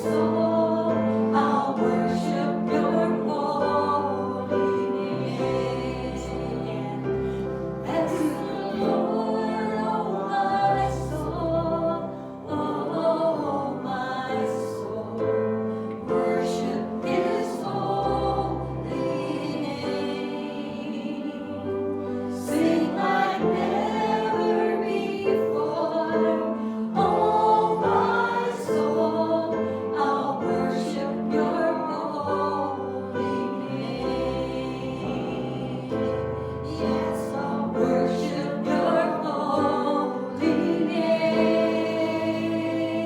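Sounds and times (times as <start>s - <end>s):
group singing worship song: 0.0s - 43.0s.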